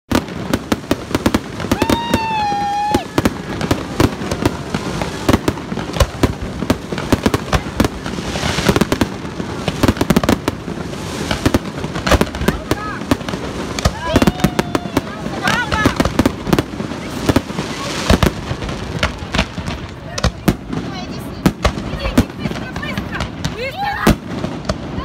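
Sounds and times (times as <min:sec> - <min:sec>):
fireworks bangs: 0:00.1 - 0:25.0.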